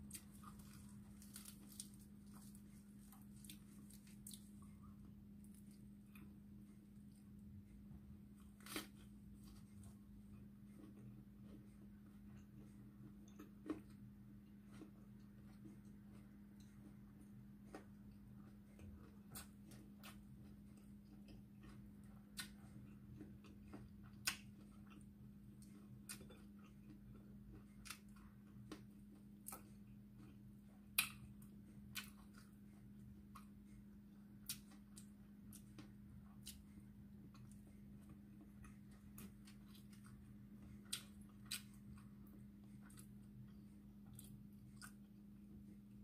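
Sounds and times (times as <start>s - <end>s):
person eating and chewing: 0.0s - 7.5s, 8.3s - 46.0s
steady low hum: 0.0s - 46.0s.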